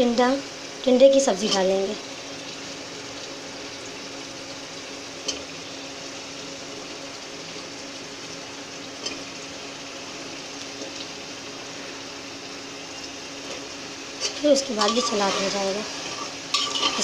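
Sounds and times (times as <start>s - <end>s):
sizzling hiss in cooker: 0.0s - 17.0s.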